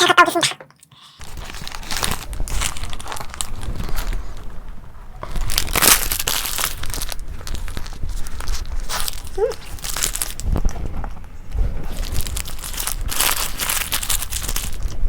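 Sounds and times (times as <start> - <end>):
close-up crunching and crinkling eating: 0.8 - 15.0.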